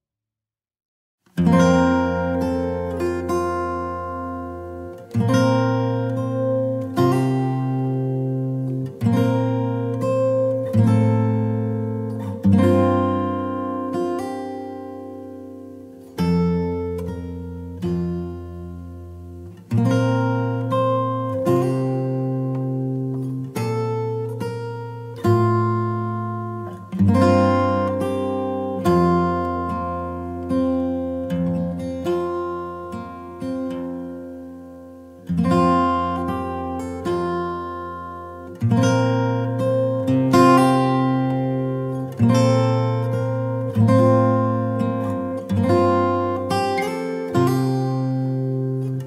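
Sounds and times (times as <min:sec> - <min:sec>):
acoustic guitar chords strummed: 0:01.3 - 0:49.0.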